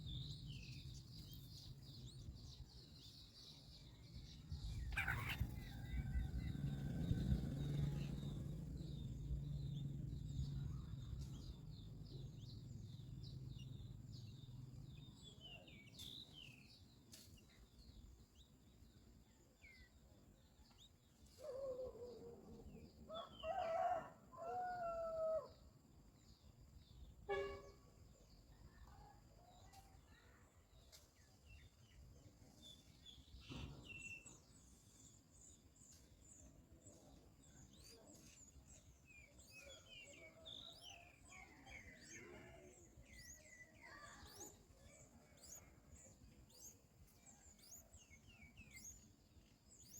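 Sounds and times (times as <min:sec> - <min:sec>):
small birds chirping: 0:00.0 - 0:27.1, 0:28.1 - 0:49.9.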